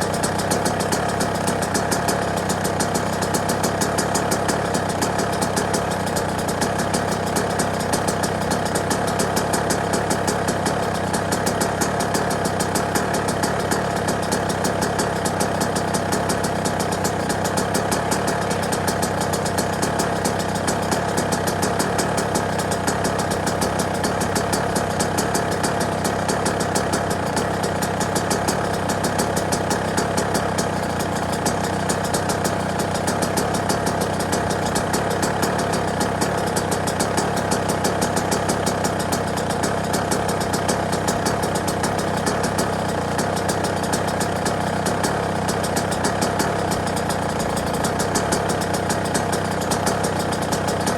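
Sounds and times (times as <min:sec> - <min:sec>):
two-stroke engine idling: 0:00.0 - 0:50.9.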